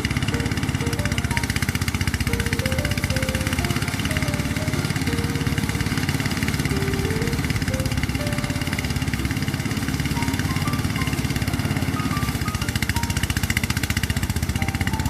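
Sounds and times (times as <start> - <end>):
faint melody: 0.0 - 15.0
small engine chugging: 0.0 - 15.0.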